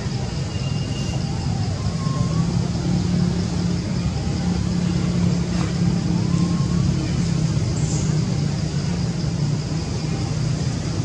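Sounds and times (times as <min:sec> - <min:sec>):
constant high hiss: 0:00.0 - 0:11.0
faint whistle-like tones: 0:00.0 - 0:11.0.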